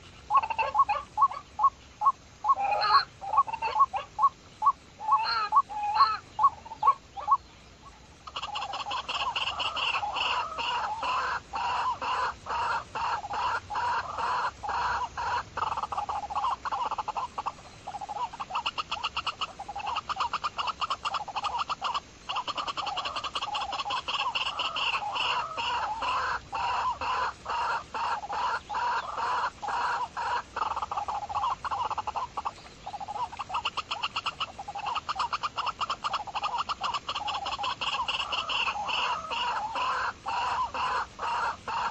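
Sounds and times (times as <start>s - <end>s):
pulsing animal calls: 0.0s - 7.5s, 8.2s - 41.9s.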